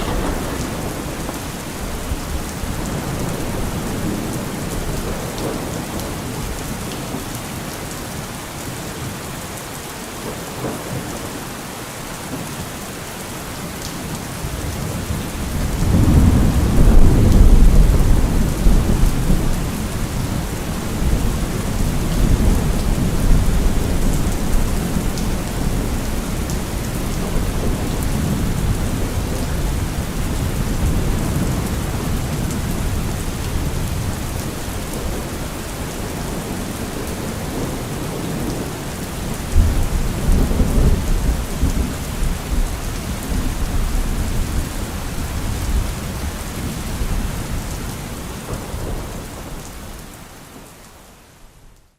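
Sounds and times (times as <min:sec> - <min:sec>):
rolling thunder: 0:00.0 - 0:07.3, 0:14.5 - 0:49.8
heavy rain: 0:00.0 - 0:51.9.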